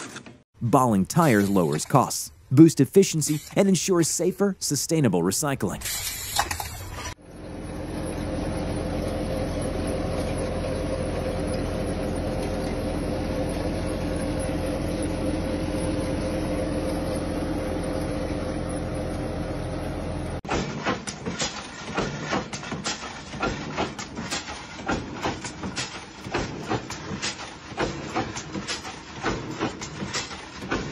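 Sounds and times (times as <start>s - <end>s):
machine drone with low hum: 5.8s - 30.9s.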